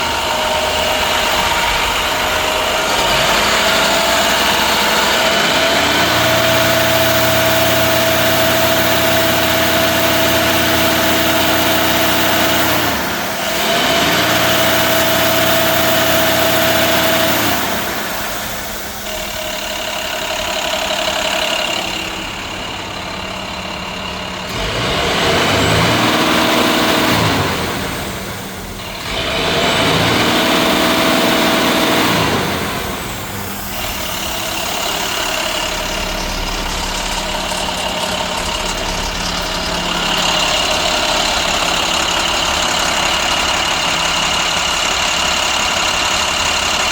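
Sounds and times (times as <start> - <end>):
diesel truck engine revving: 0.0 - 46.9.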